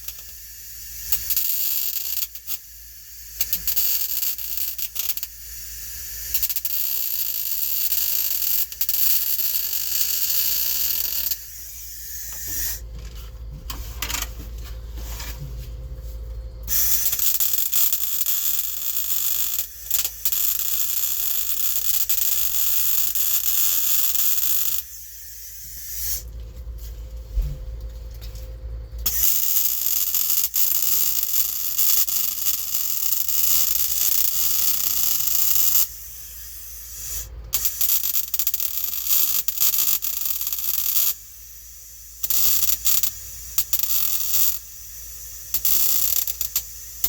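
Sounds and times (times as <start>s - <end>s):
welding arc hissing and crackling: 0.0s - 12.9s, 16.7s - 26.3s, 29.0s - 47.0s.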